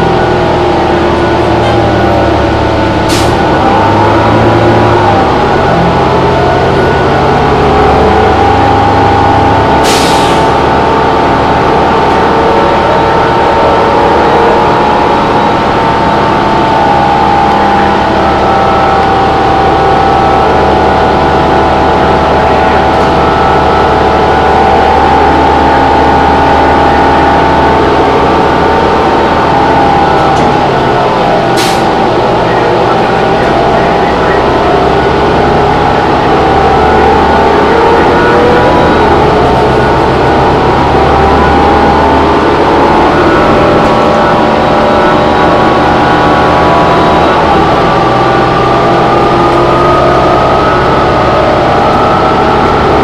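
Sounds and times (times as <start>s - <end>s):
bus engine drone: 0.0s - 53.0s.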